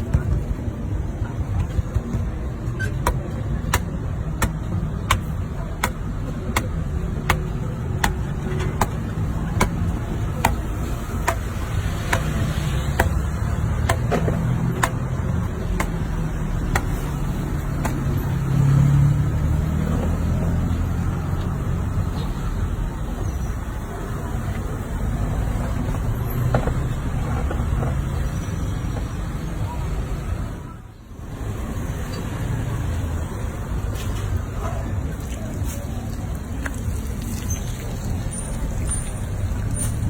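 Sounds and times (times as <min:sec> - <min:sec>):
street traffic rumble: 0:00.0 - 0:40.0.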